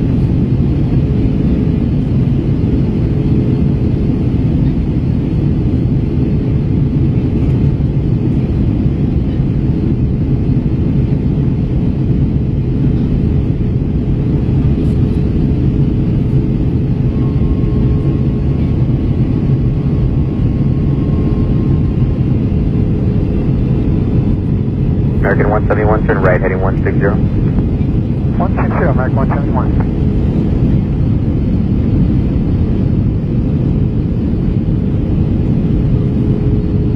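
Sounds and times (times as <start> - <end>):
airliner cabin drone: 0.0 - 36.9.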